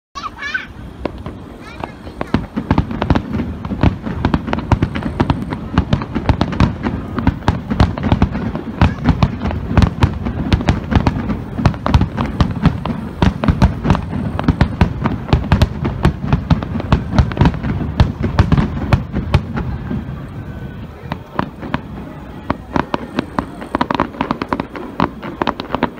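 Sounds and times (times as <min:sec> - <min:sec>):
firework shells bursting: 0:00.6 - 0:25.9.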